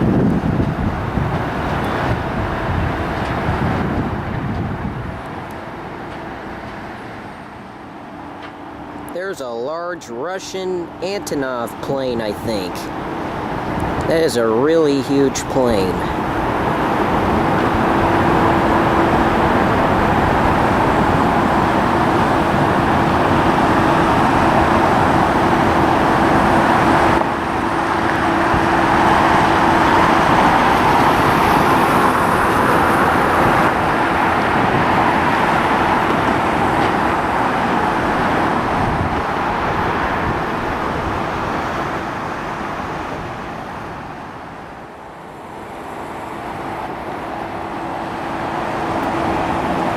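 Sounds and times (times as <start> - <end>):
jet engines running: 0.0 - 49.9.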